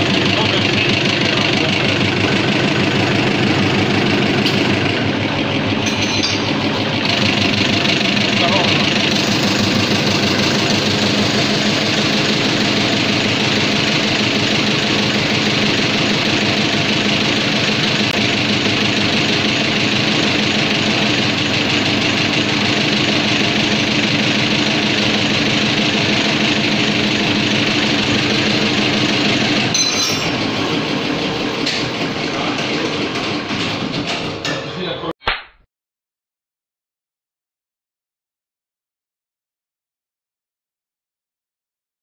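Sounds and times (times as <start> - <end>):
fuel injection pump running: 0.0 - 34.8.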